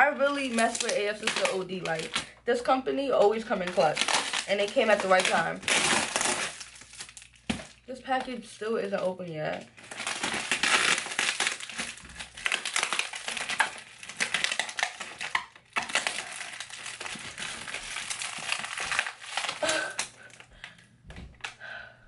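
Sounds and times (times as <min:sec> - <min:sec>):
plastic wrapping crinkling: 0:00.0 - 0:21.6.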